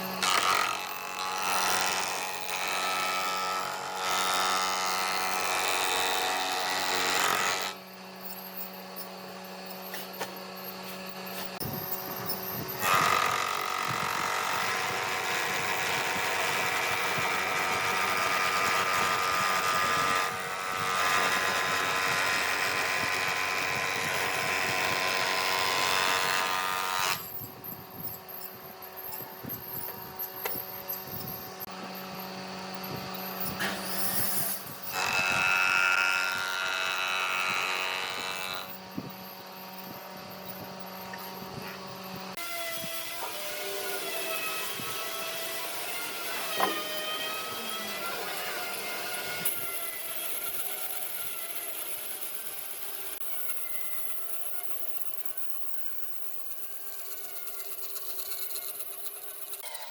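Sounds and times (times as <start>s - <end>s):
woodworking machine cutting wood: 0.0s - 59.9s.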